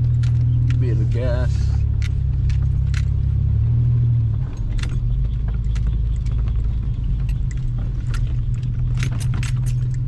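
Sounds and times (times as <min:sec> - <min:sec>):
rattles and jangling clicks: 0:00.0 - 0:03.3, 0:04.5 - 0:10.0
truck engine running: 0:00.0 - 0:10.0.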